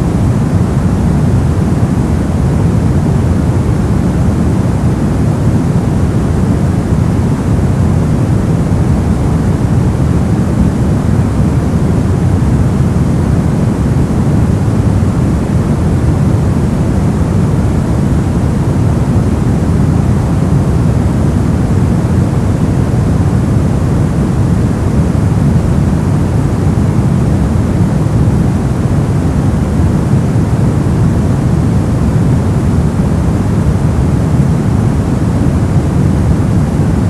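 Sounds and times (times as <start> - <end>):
brown noise: 0.0 - 37.0.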